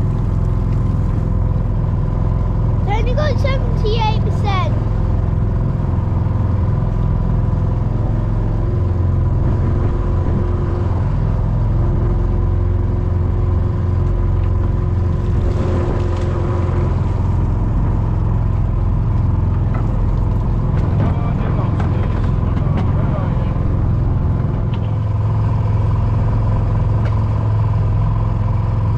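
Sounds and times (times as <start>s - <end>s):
boat engine rumbling: 0.0s - 28.9s.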